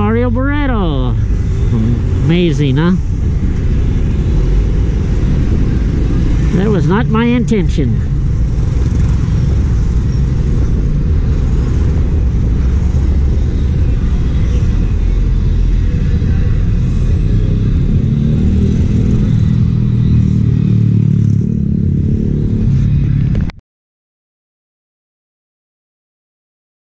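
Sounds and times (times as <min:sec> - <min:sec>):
motorcycles passing: 0:00.0 - 0:23.5
road traffic rumble: 0:00.0 - 0:23.6.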